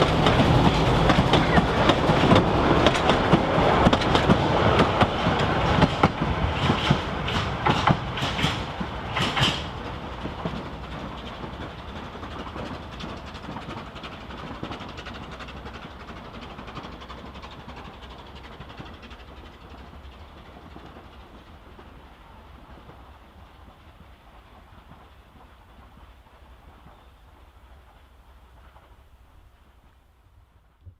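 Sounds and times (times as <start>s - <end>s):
train wheels clicking over rail joints: 0.0s - 30.0s.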